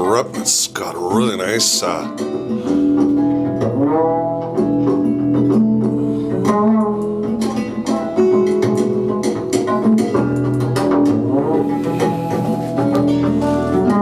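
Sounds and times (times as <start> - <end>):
recorded guitar music: 0.0 - 14.0.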